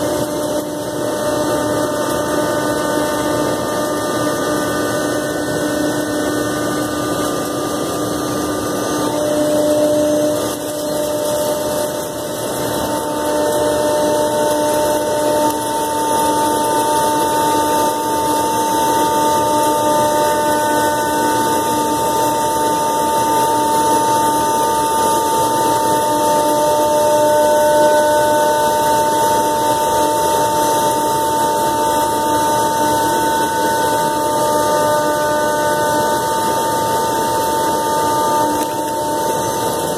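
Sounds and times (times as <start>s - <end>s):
router bit cutting sheet: 0.0s - 39.9s
router spindle whine: 0.0s - 39.9s.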